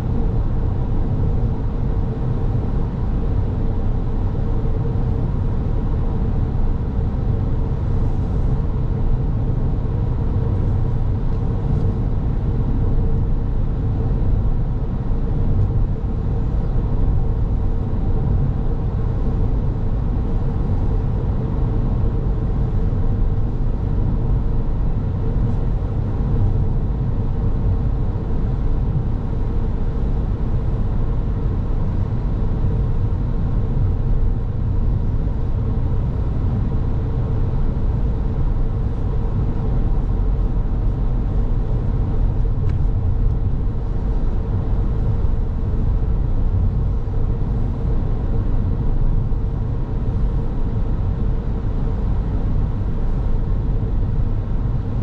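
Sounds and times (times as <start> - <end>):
car tyre and engine rumble: 0.0 - 55.0
faint steady hum: 0.0 - 55.0.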